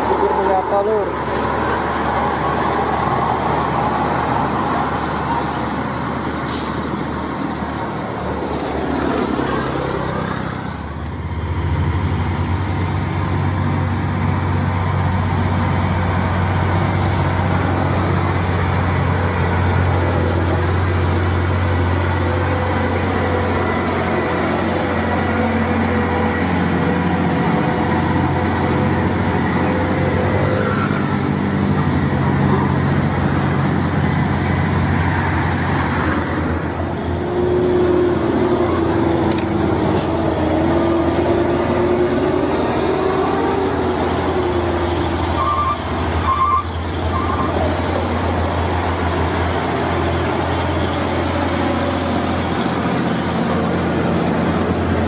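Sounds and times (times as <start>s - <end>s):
heavy diesel trucks passing: 0.0s - 55.0s
truck diesel engine droning: 0.0s - 55.0s.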